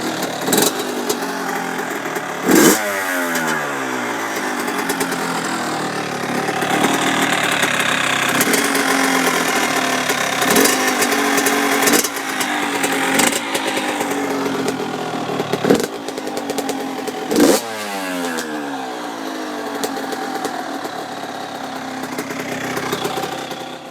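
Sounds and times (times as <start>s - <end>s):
two-stroke engine idling: 0.0s - 23.9s.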